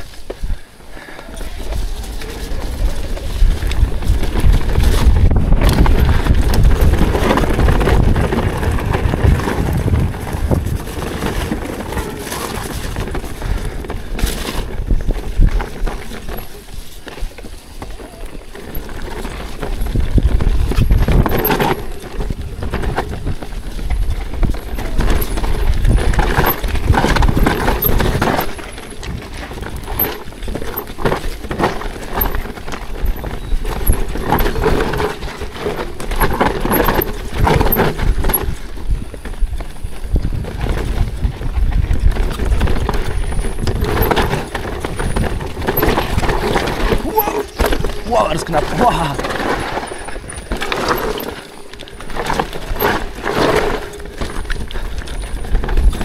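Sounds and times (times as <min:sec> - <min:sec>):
bike clattering over rocks: 0:01.4 - 0:56.0.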